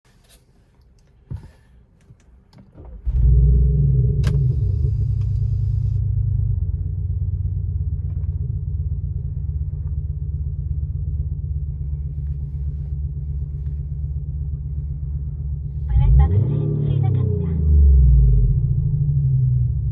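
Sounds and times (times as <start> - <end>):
car engine starting and idling: 0.1 - 19.9.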